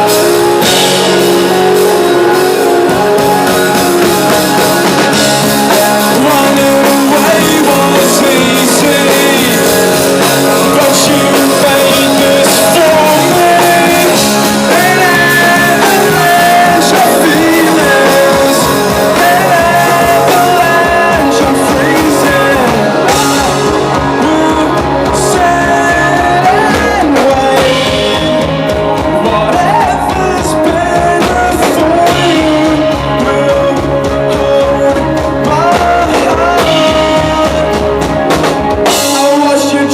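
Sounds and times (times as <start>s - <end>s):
drums: 0.0s - 39.9s
guitars: 0.0s - 39.9s
person singing: 0.0s - 39.9s.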